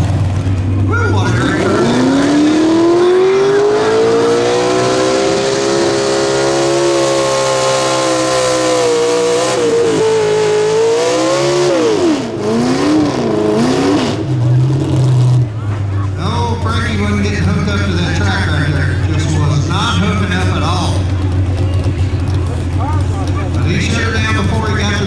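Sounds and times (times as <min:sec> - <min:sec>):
tractor engine at full throttle: 0:00.0 - 0:25.0.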